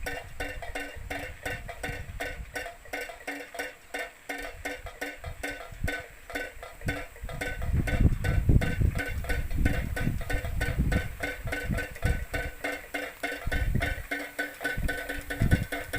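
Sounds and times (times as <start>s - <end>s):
wind rumble on microphone: 0.0s - 2.7s, 4.5s - 14.1s, 14.7s - 15.9s
windmill beaters clacking on pipe: 0.0s - 15.9s.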